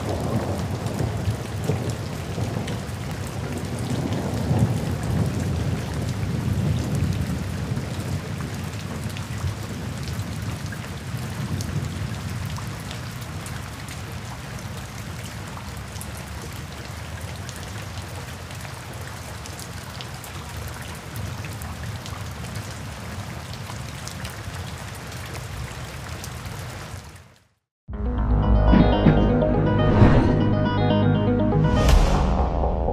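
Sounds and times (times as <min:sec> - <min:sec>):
rain hissing and pattering: 0:00.0 - 0:27.5.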